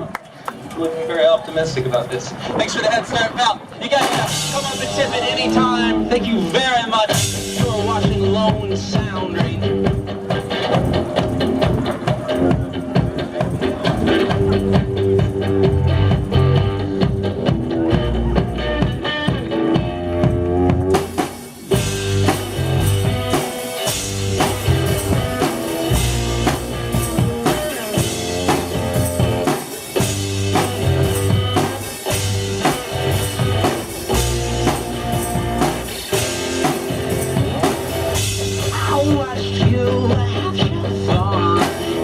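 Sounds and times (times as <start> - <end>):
rock guitar: 0.0 - 42.0
drum kit beat: 3.9 - 42.0.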